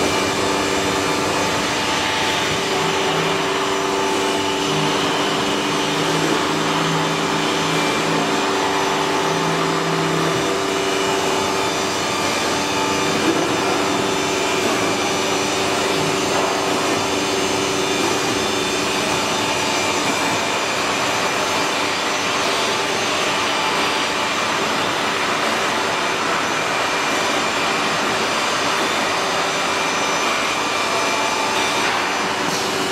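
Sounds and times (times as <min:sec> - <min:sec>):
cnc router whine and hiss: 0:00.0 - 0:32.9.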